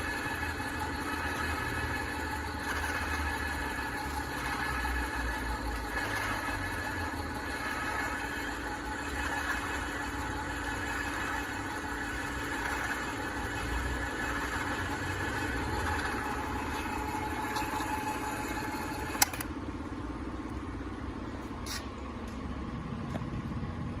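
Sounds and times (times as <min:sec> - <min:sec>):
low hum: 0:00.0 - 0:24.0
machine motor whine: 0:00.0 - 0:24.0.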